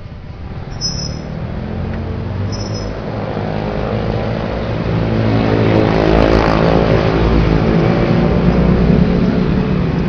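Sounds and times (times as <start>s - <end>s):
motor scooter engines passing: 0.0s - 10.0s.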